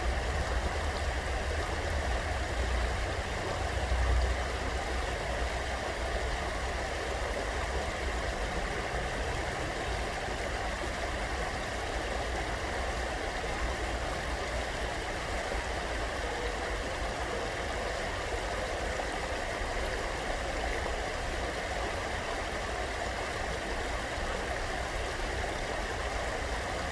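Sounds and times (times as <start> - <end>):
stream water rushing: 0.0 - 26.9.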